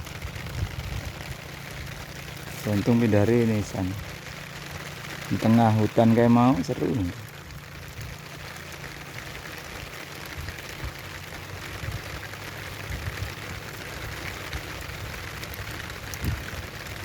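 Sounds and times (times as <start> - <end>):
low rumble: 0.0 - 16.9
steady rain hiss: 0.0 - 17.0.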